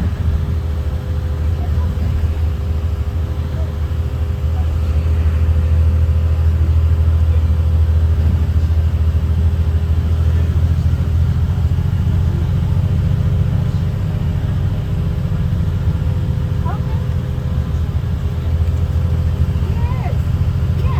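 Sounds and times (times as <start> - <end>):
bus diesel engine rumble: 0.0 - 20.9.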